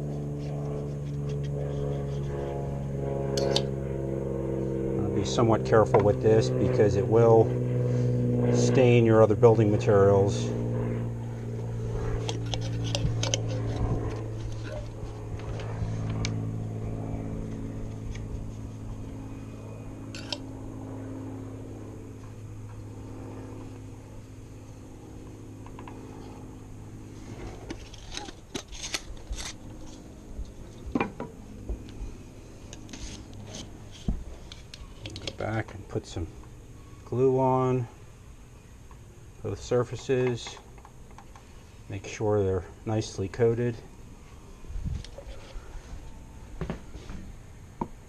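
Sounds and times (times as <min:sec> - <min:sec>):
engine humming: 0:00.0 - 0:39.6.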